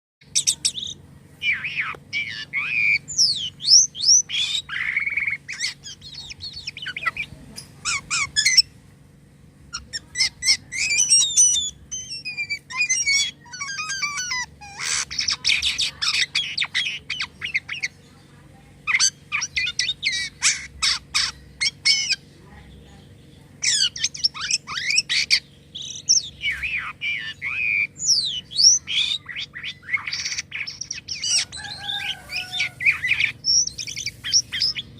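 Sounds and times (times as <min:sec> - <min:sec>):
starling singing: 0:00.2 - 0:08.8, 0:09.7 - 0:34.9.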